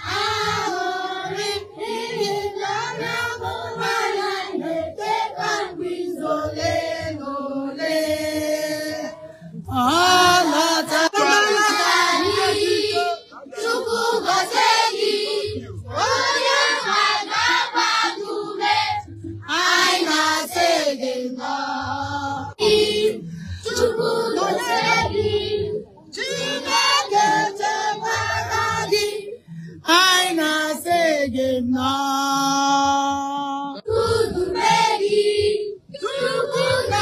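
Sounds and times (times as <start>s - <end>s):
voices singing worship song: 0.0s - 37.0s.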